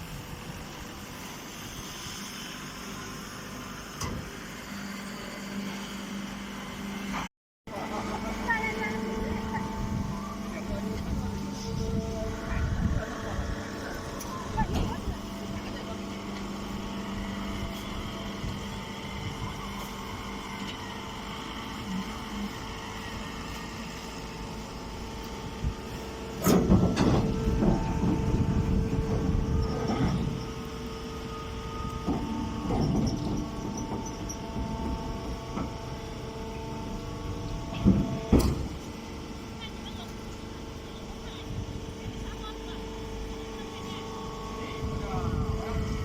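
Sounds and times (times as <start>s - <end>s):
machine hum: 0.0s - 46.0s.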